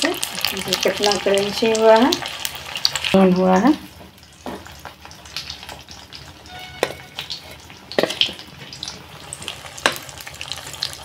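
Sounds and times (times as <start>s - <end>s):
fish deep-frying in hot oil: 0.0s - 11.0s.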